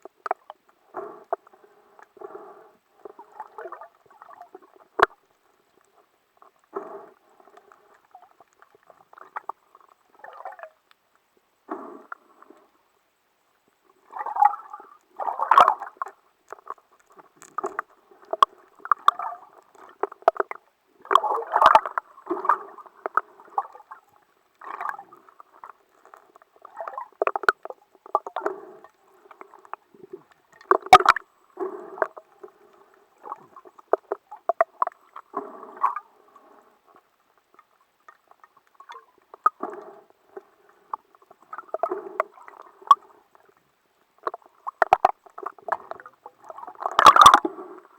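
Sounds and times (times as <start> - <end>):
water sloshing and gurgling: 0.0 - 10.9, 13.8 - 47.9.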